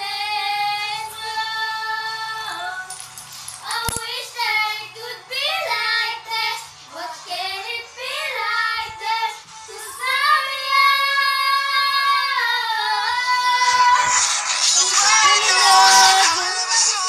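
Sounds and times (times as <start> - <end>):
girl singing: 0.0 - 2.9, 3.6 - 17.0.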